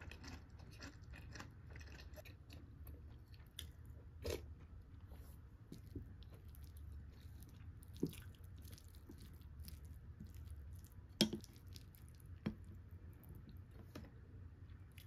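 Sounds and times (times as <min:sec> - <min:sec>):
chewing crispy food: 0:00.0 - 0:05.1, 0:05.7 - 0:13.7.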